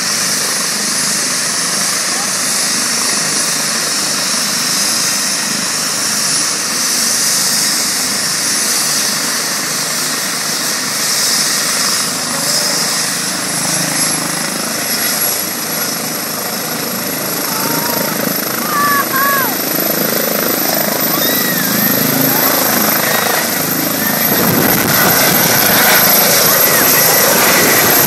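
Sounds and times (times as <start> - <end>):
helicopter turbine whine: 0.0 - 28.0
loud continuous rushing noise: 0.0 - 28.0.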